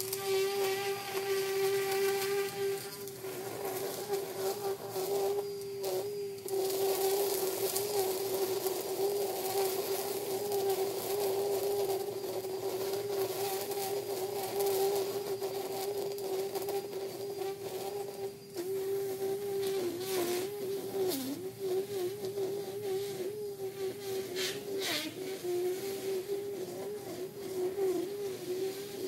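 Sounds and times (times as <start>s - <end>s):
string trimmer whining: 0.0s - 29.0s.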